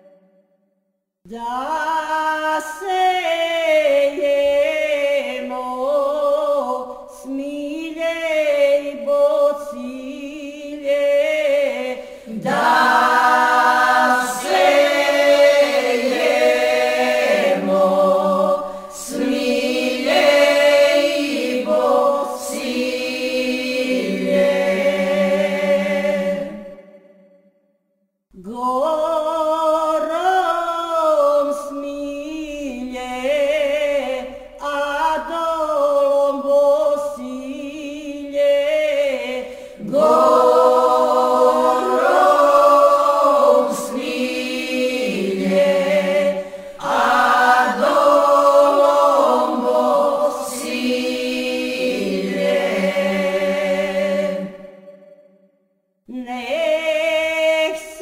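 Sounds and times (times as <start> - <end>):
unaccompanied group singing: 2.1 - 27.1, 32.5 - 55.2.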